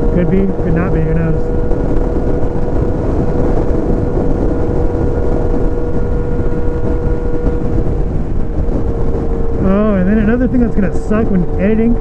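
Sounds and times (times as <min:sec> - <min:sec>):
motorcycle engine cruising: 0:00.0 - 0:12.0
road rumble: 0:00.0 - 0:12.0
wind on microphone: 0:00.0 - 0:12.0.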